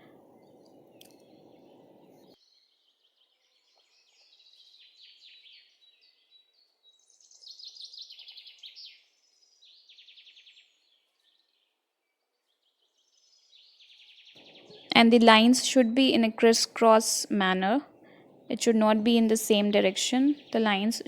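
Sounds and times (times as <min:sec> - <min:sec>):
small birds chirping and trilling: 0:00.0 - 0:21.0.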